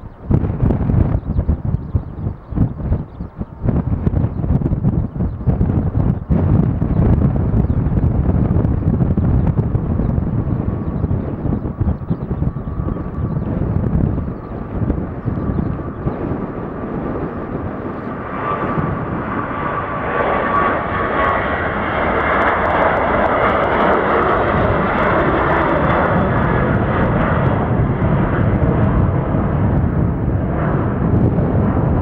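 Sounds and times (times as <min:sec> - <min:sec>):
jet engines at high power: 0:00.0 - 0:32.0.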